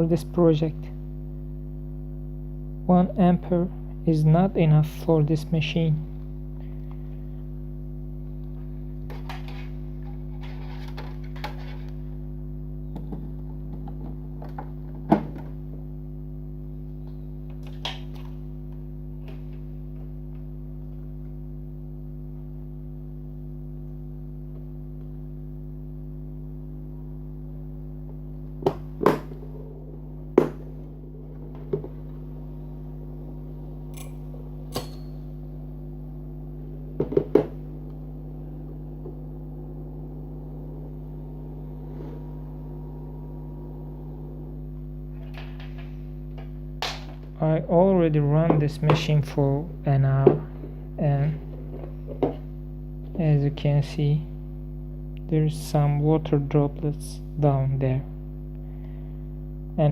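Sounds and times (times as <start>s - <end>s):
cooling fans humming: 0.0s - 59.9s.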